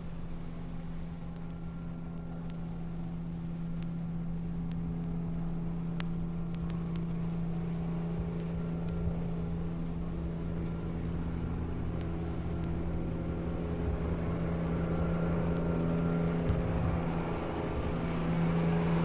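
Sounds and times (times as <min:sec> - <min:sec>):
crickets chirping: 0:00.0 - 0:19.0
low engine-like rumble: 0:00.0 - 0:19.0
low hum: 0:00.0 - 0:19.0.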